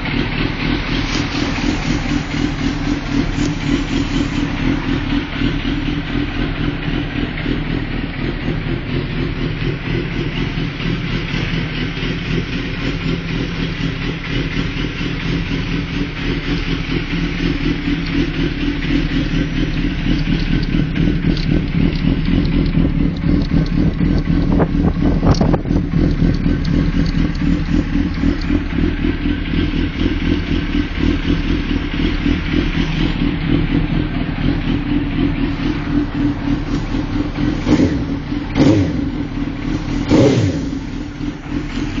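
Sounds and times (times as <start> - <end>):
motorcycle engine idling: 0.0 - 42.0.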